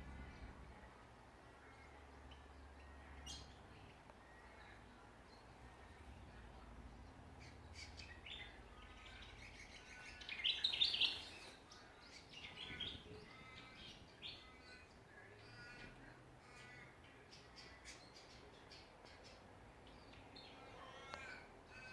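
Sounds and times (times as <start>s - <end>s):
songbirds chirping: 0.0s - 21.9s.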